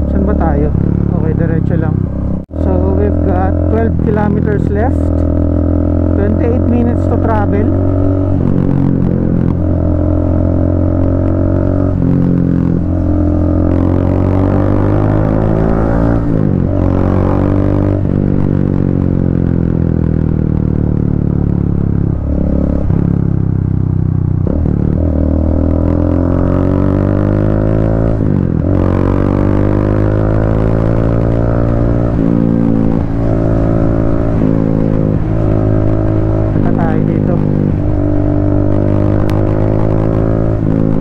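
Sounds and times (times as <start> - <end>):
motorcycle engine while riding: 0.0 - 41.0.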